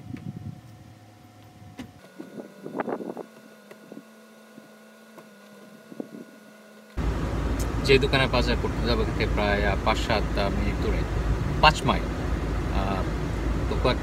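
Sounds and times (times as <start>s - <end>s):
roof mechanism pump whine: 0.0s - 14.0s.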